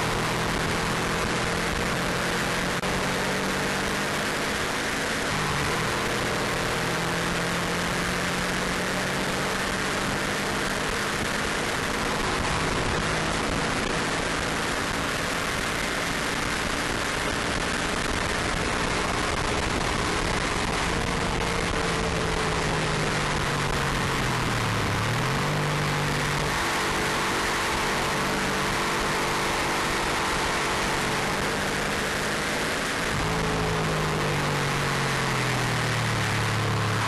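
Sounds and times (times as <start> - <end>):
car engine running hard: 0.0 - 37.0
wind and road noise: 0.0 - 37.0.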